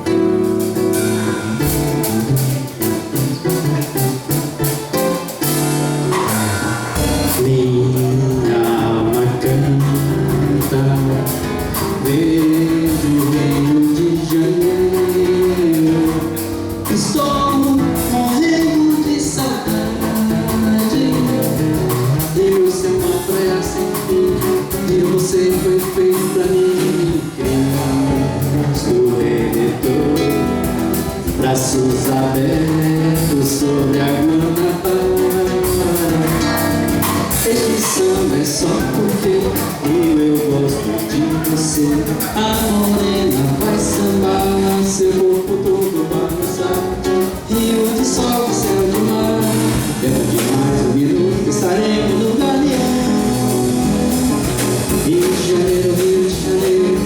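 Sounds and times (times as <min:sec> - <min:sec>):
acoustic guitar: 0:00.0 - 0:57.0
drum kit with cymbals: 0:00.0 - 0:57.0
person singing: 0:00.0 - 0:57.0.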